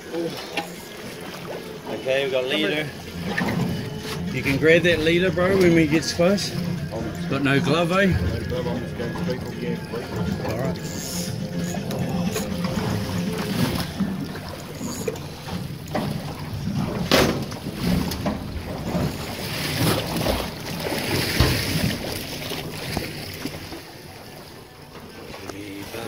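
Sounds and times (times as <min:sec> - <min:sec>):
water sloshing against boat hull: 0:00.0 - 0:26.0.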